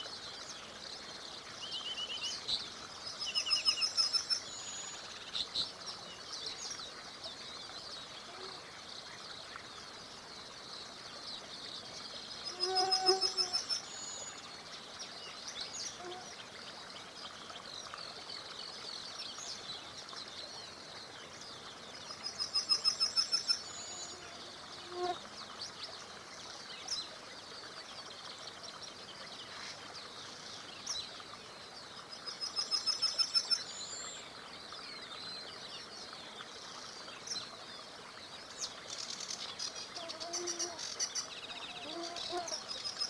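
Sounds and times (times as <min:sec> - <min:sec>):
background hiss: 0:00.0 - 0:43.0
songbirds singing and chirping: 0:00.0 - 0:43.0.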